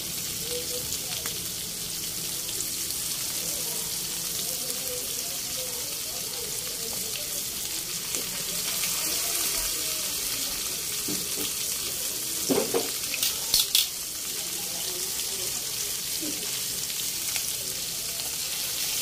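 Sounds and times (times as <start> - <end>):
fish frying in oil: 0.0 - 19.0.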